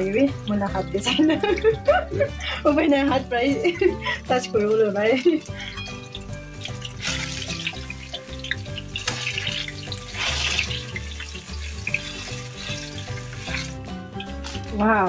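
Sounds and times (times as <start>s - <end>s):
background music: 0.0s - 15.0s
hot oil sizzling: 0.0s - 15.0s.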